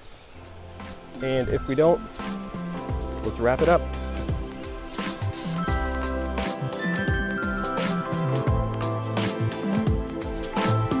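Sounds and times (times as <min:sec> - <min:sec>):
held bass notes: 0:01.2 - 0:11.0.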